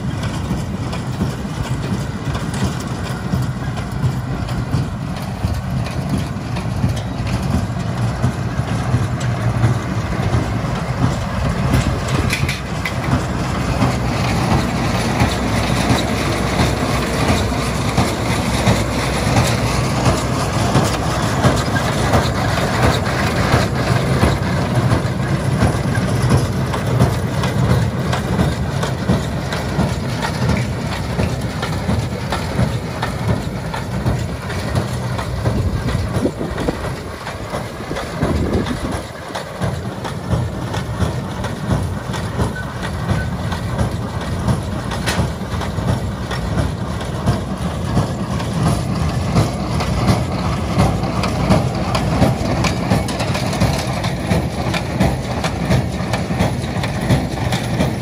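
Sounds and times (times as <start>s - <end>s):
baler mechanical clatter: 0.0s - 58.0s
tractor diesel engine under load: 0.0s - 58.0s.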